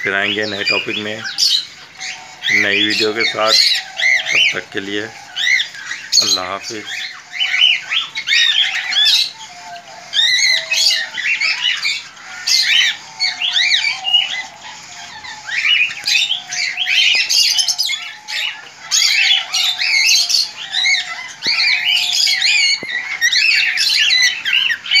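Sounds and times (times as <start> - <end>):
birds chattering and squawking: 0.0 - 25.0.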